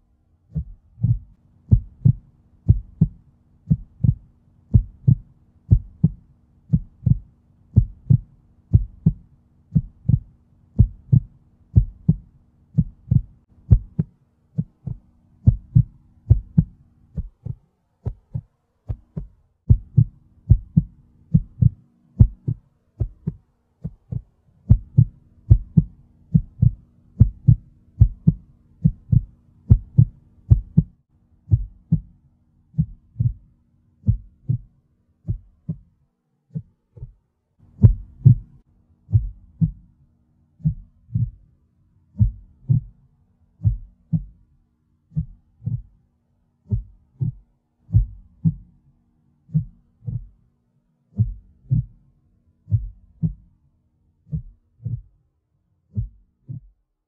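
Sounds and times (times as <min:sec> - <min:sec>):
faint steady hum: 0:00.0 - 0:55.2
muffled heartbeat-like thumps: 0:00.4 - 0:40.0, 0:40.6 - 0:41.5, 0:42.1 - 0:43.0, 0:43.6 - 0:44.5, 0:45.1 - 0:46.0, 0:46.6 - 0:48.8, 0:49.5 - 0:50.5, 0:51.1 - 0:52.0, 0:52.7 - 0:53.6, 0:54.3 - 0:55.2, 0:55.9 - 0:56.8.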